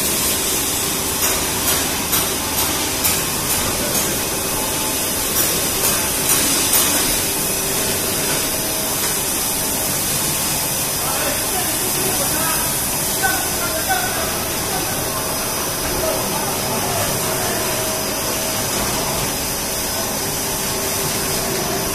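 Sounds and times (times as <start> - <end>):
loud air hiss: 0.0 - 21.9
machine hum: 0.0 - 21.9.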